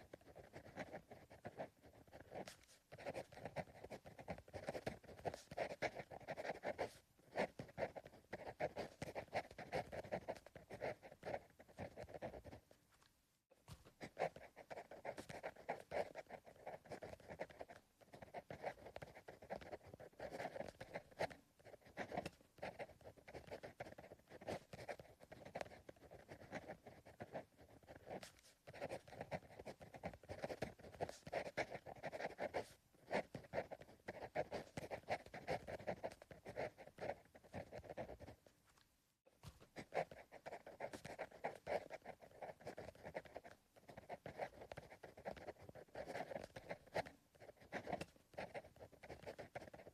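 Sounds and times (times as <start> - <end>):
pencil scratching on paper: 0.0 - 13.1, 13.7 - 38.5, 39.4 - 49.9.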